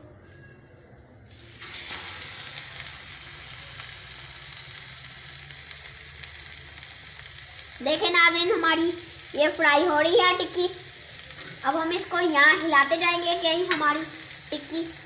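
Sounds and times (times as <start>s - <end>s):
patty sizzling on griddle: 1.3s - 15.0s.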